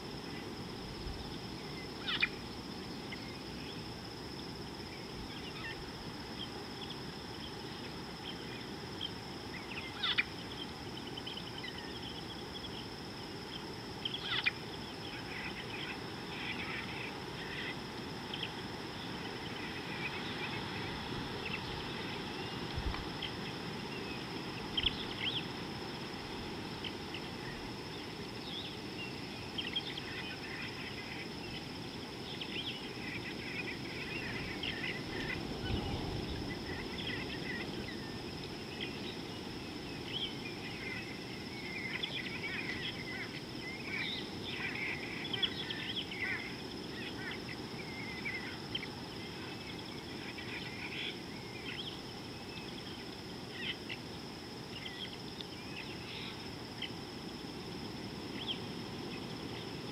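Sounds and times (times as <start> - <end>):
high insect drone: 0.0 - 59.9
low steady hiss: 0.0 - 59.9.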